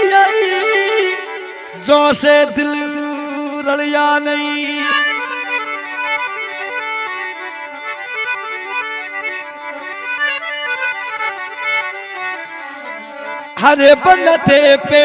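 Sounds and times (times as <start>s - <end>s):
harmonium melody over drone: 0.0s - 15.0s.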